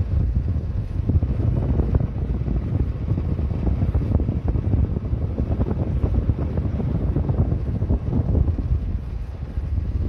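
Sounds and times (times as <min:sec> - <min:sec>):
motorcycle riding: 0:00.0 - 0:10.0
wind buffeting microphone: 0:00.0 - 0:10.0.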